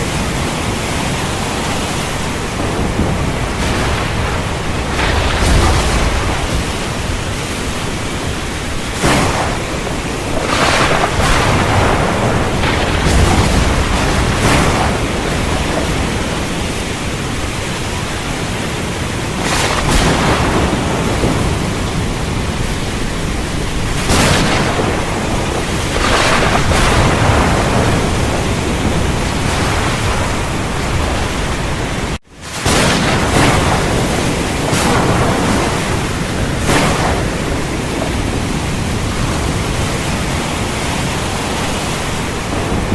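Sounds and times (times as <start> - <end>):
heavy rain pouring: 0.0 - 42.9
rumbling thunder: 0.0 - 42.9.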